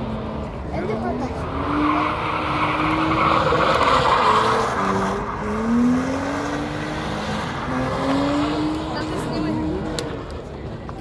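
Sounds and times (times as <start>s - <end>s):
tyres squealing on asphalt: 0.0s - 10.2s
car engine revving: 0.0s - 10.8s.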